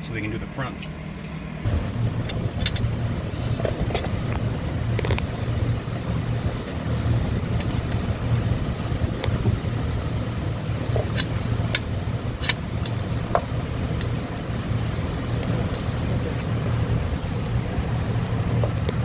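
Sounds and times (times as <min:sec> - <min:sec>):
low hum of machinery: 0:00.0 - 0:19.0.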